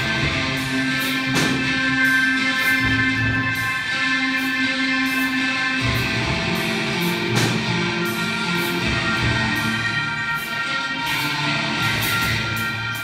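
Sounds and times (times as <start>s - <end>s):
drums: 0.0s - 13.0s
electric guitars: 0.0s - 13.0s.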